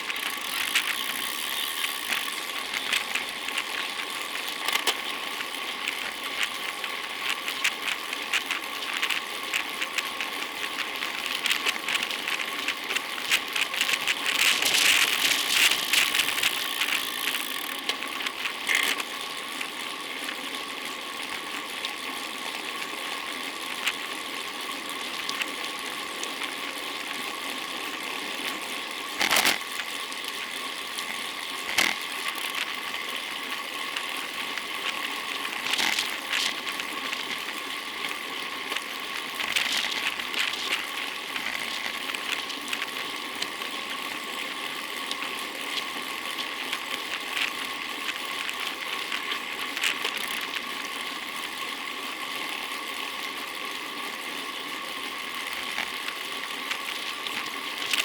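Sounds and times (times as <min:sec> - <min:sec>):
bicycle rattling and ticking: 0:00.0 - 0:58.0
bicycle tyre and wind noise: 0:00.0 - 0:58.0.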